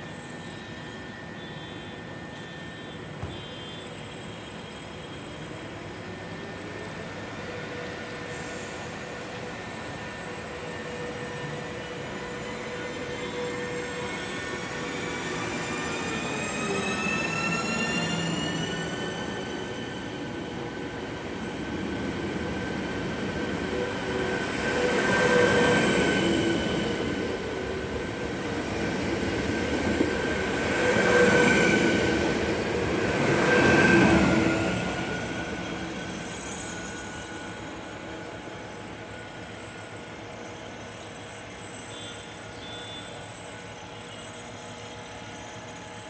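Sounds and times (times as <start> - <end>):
train wheel noise and squeal: 0.0 - 46.0.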